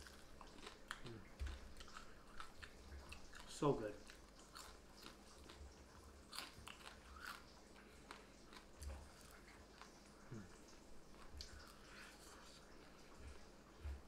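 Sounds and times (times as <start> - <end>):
chewing fried fish crunches: 0.0 - 14.0.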